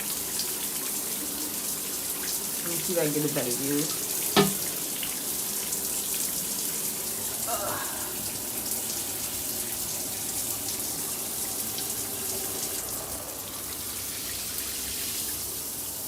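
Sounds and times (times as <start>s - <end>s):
shower water spraying: 0.0s - 16.0s.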